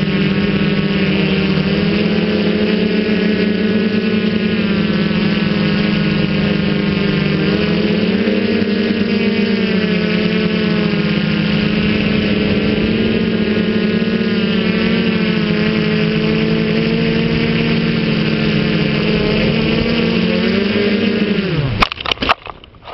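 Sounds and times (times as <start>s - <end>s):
drone propellers whining: 0.0s - 22.9s.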